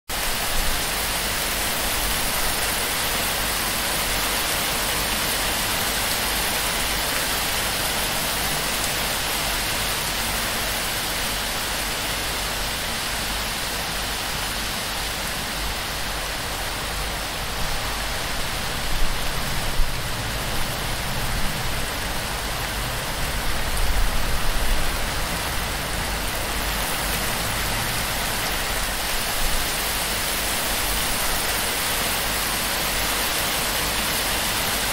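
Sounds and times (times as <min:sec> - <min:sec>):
heavy rain on thatch roof: 0:00.1 - 0:34.9.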